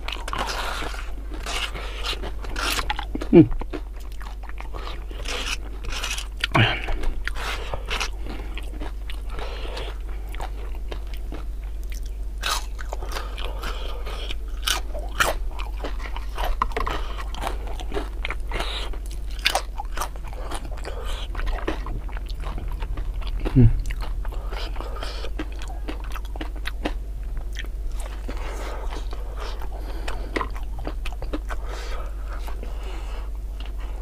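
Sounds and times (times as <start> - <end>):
chewing: 0.0 - 34.0
crunching of crispy fried food: 0.0 - 34.0.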